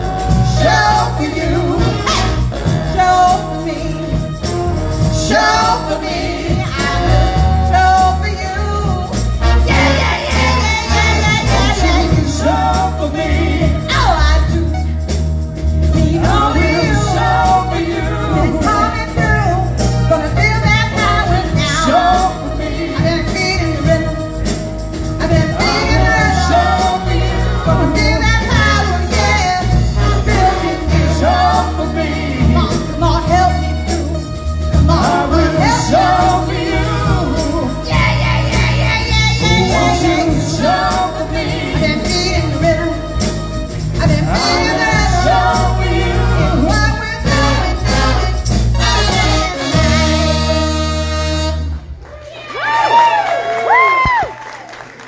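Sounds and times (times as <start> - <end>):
person singing: 0.0 - 15.0, 16.0 - 24.4, 25.2 - 51.2
bass line: 0.0 - 52.0
drums: 0.0 - 52.0.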